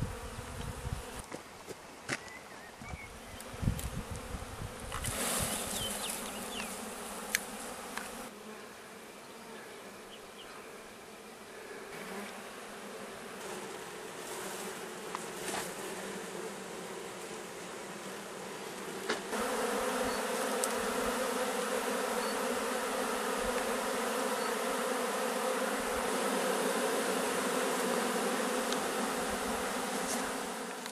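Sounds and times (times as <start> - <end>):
bee swarm buzzing: 0.0 - 30.9.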